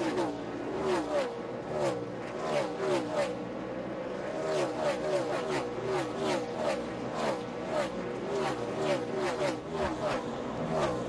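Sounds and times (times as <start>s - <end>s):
race cars passing: 0.0s - 11.0s.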